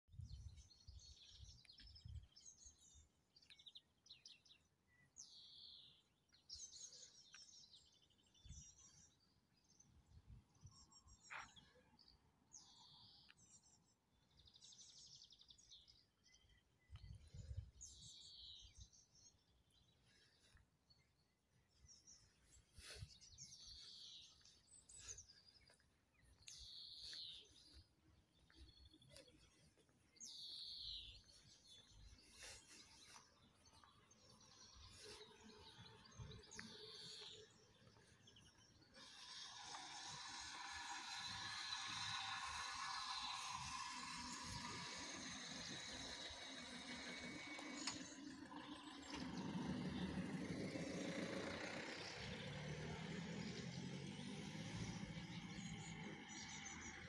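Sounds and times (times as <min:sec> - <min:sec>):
faint birdsong: 0:00.0 - 0:57.0
songbirds chirping and trilling: 0:00.0 - 0:57.0.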